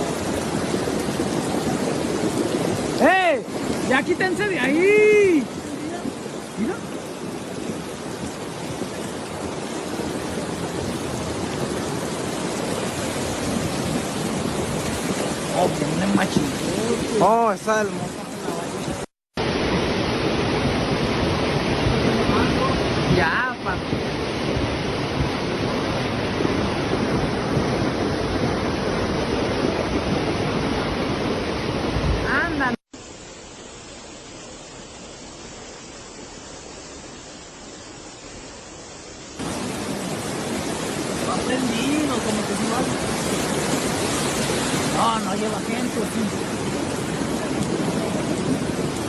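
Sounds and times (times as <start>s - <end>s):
floodwater flowing: 0.0s - 49.0s
heavy rain: 0.0s - 49.0s.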